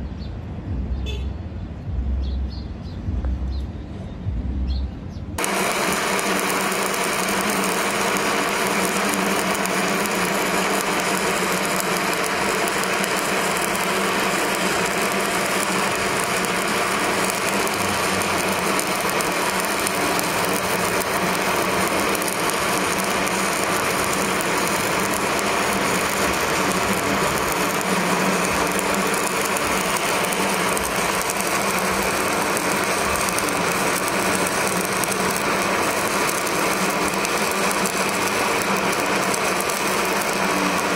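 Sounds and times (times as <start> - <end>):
welding arc crackling and sizzling: 5.4 - 40.9.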